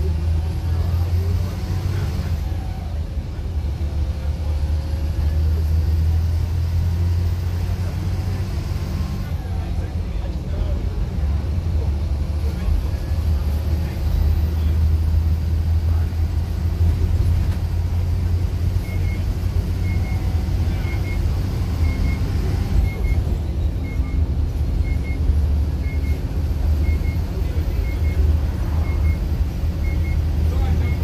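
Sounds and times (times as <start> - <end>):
bus engine and road drone: 0.0 - 31.0.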